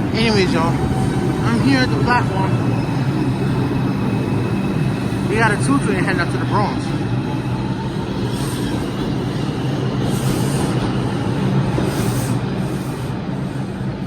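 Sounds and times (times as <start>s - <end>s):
subway train rumbling: 0.0s - 14.0s.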